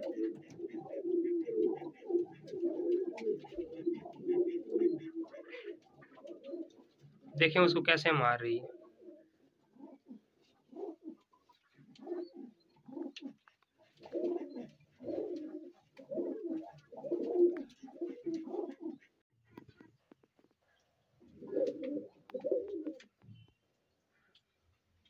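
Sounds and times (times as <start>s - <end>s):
pigeons cooing: 0.0s - 7.8s, 8.6s - 19.9s, 21.2s - 23.1s.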